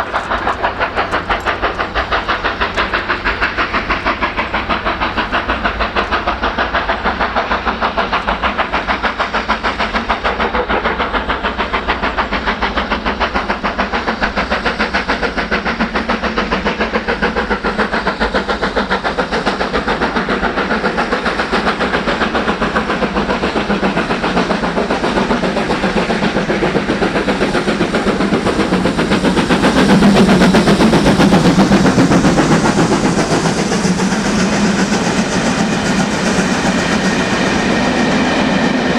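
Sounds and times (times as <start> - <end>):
steam hissing: 0.0 - 38.9
steam locomotive exhaust beats: 0.0 - 38.9.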